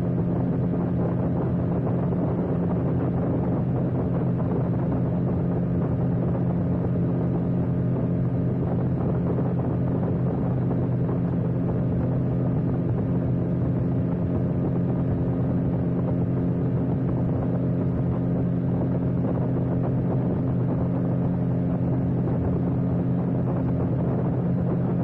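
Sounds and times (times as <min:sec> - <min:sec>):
outboard motor running at high speed: 0:00.0 - 0:25.0
water rushing past hull: 0:00.0 - 0:25.0.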